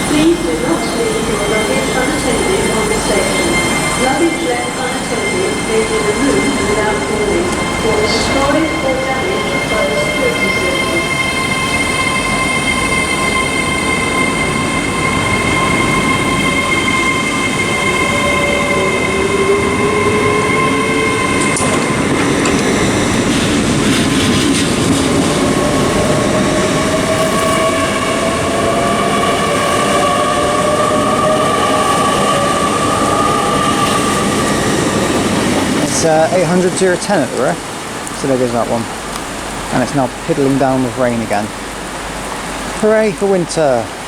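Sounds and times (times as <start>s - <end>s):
train pulling away with rising whine: 0.0s - 44.0s.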